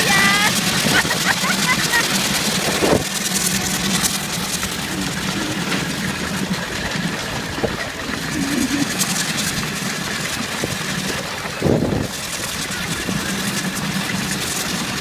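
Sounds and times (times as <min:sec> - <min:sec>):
steam traction engine running: 0:00.0 - 0:15.0.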